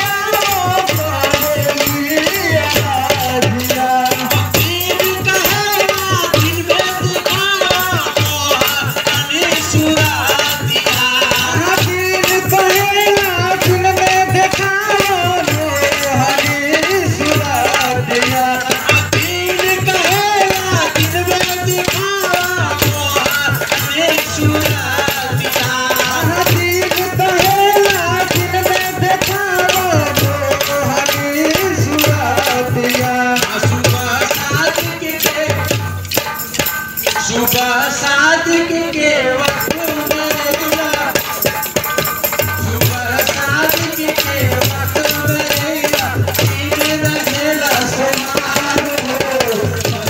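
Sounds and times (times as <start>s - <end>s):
men singing into a microphone: 0.0s - 50.0s.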